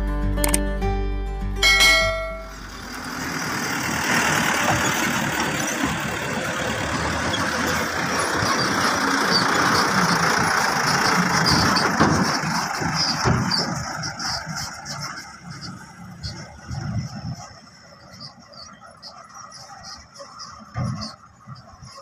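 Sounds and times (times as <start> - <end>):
diesel truck driving past: 1.6 - 22.0.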